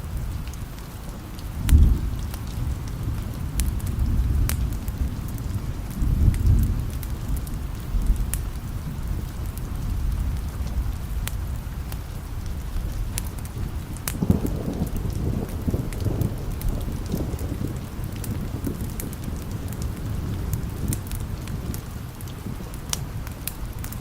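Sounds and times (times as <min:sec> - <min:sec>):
steady rain: 0:00.0 - 0:24.0
distant thunder rolling: 0:01.5 - 0:24.0.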